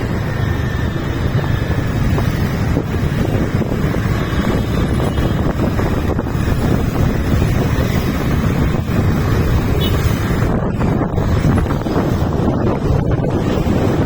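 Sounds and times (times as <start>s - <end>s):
road traffic: 0.0s - 14.0s
wind rumble on microphone: 0.0s - 14.0s.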